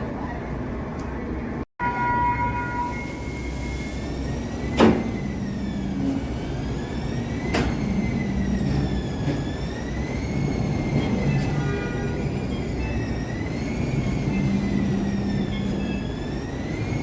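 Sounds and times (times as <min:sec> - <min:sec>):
light rail train whining: 0:00.0 - 0:17.0.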